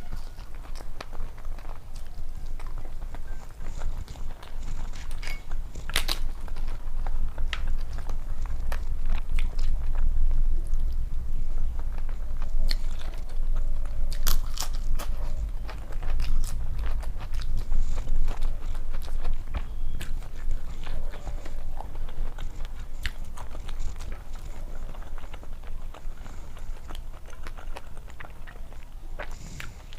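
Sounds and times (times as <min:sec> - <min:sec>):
chewing crisp food: 0:00.0 - 0:29.9.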